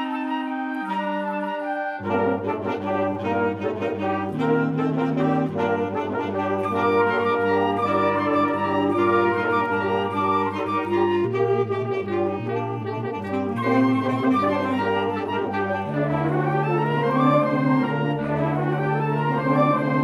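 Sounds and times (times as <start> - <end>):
instrumental ensemble playing carols: 0.0 - 20.0.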